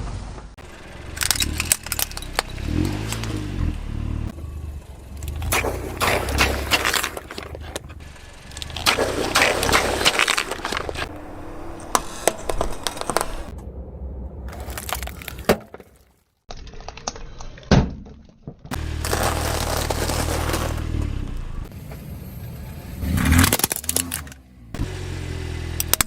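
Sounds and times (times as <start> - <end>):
objects crunching under car tyre: 0.6 - 13.6, 14.4 - 22.1, 23.0 - 24.4.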